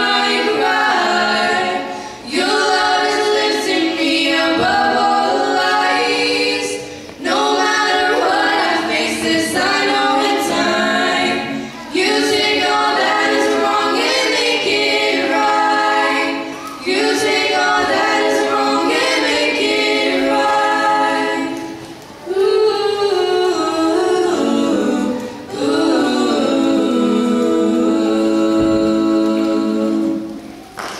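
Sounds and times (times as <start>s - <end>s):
women singing in harmony: 0.0s - 30.7s.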